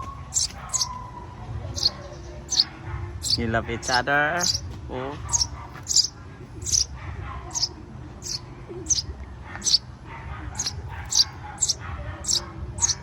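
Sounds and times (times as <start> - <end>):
young birds chirping: 0.0 - 13.0.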